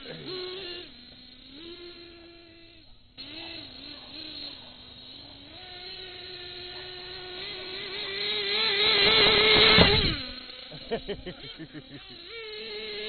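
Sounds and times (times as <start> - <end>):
toy car motor whining: 0.0 - 13.0.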